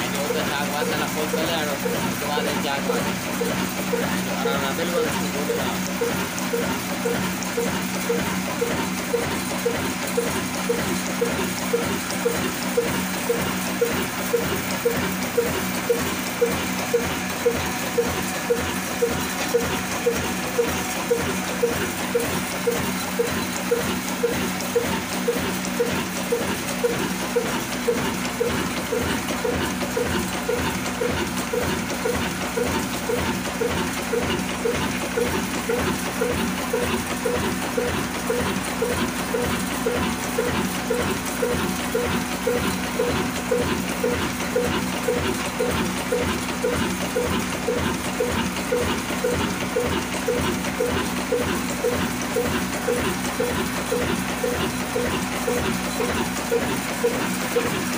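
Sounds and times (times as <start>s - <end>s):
slow diesel engine running: 0.0s - 57.9s.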